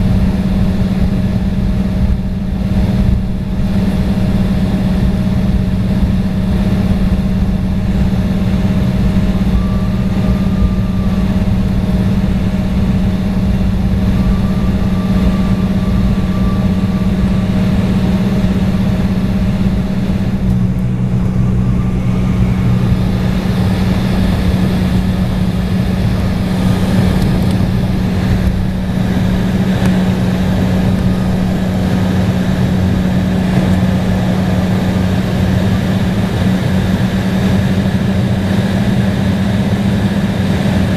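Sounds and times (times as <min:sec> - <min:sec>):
jet engines humming in cabin: 0:00.0 - 0:40.9.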